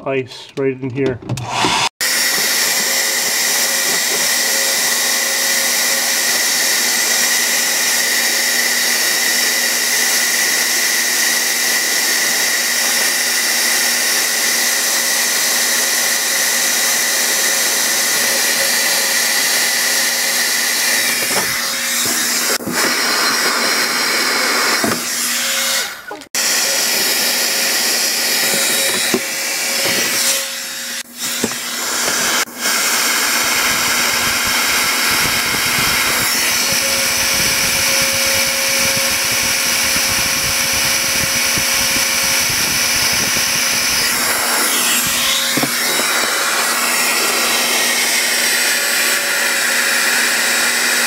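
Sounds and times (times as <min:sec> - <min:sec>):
hair dryer running: 0:01.4 - 0:51.0.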